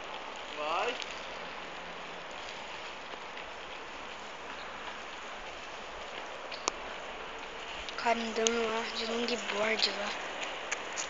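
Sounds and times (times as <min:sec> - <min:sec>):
bonfire crackling and popping: 0:00.0 - 0:11.0.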